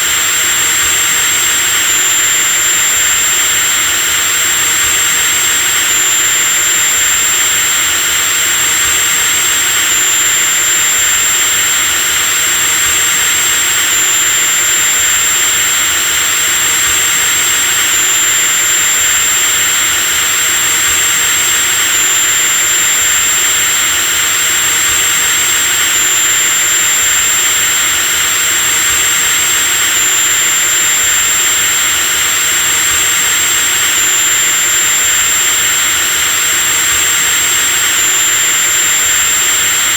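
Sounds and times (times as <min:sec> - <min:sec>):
electric drill motor whining: 0:00.0 - 0:39.9.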